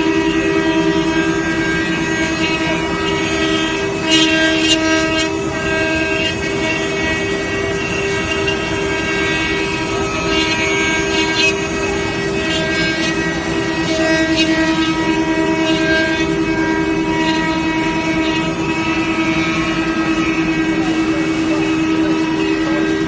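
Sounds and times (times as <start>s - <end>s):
router bits cutting wood: 0.0s - 23.0s
router spindle motors whining: 0.0s - 23.0s.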